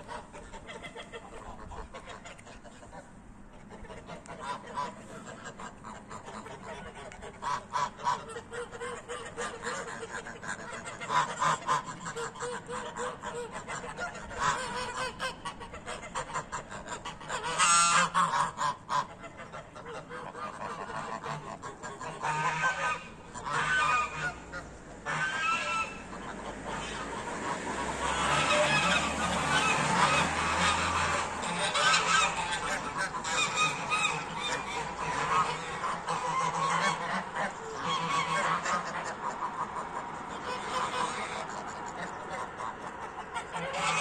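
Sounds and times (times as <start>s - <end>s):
geese honking: 0.0s - 44.0s.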